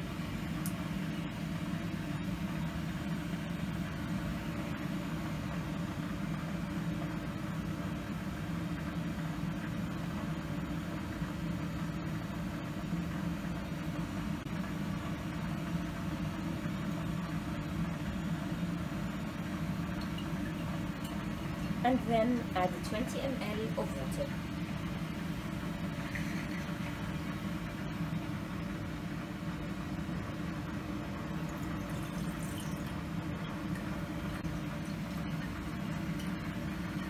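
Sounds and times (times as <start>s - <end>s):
laboratory equipment humming: 0.0s - 37.0s.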